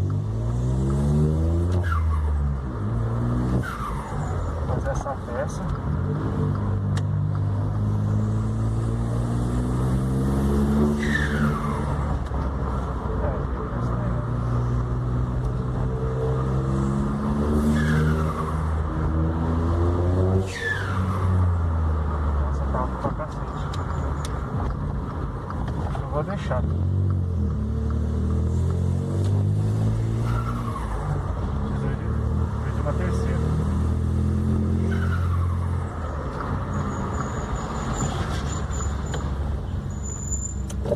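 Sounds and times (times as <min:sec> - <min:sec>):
car engine accelerating: 0:00.0 - 0:39.6.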